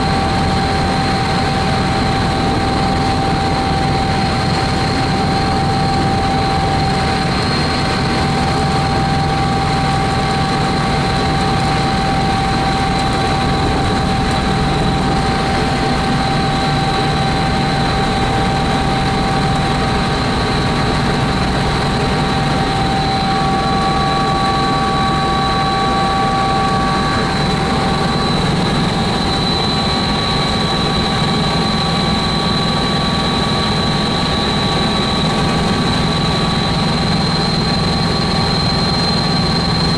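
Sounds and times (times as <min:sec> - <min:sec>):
helicopter engine whine: 0:00.0 - 0:39.9.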